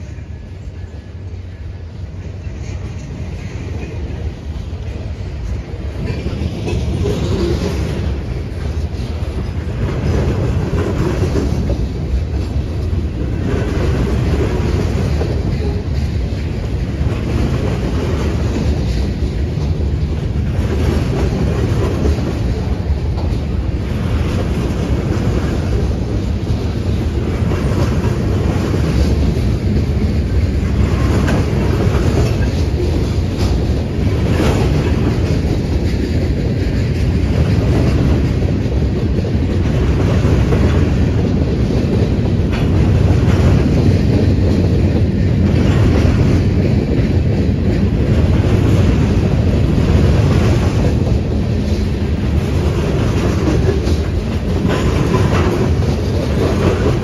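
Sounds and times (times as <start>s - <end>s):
train wheels rumbling on rail: 0.0s - 57.0s
wheels clickety-clack: 2.2s - 57.0s.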